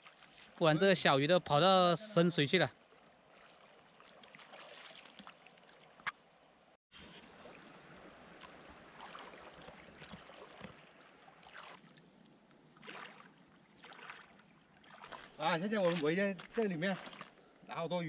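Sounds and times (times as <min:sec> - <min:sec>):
person wading through water: 0:00.0 - 0:00.8, 0:02.5 - 0:06.5, 0:07.2 - 0:17.7.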